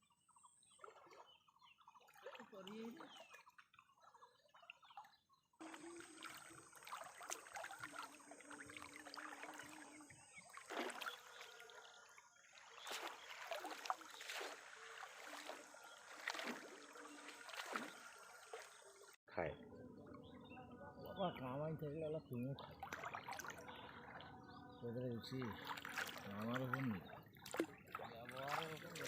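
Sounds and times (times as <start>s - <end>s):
water trickling and splashing: 0.0s - 19.2s, 19.9s - 29.0s.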